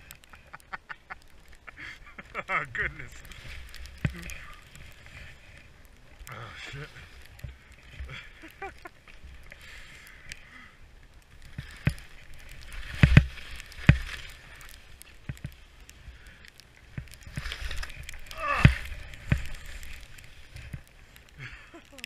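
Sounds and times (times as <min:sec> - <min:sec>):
skis swishing through snow: 0:00.0 - 0:10.2, 0:11.5 - 0:16.0, 0:16.6 - 0:21.9.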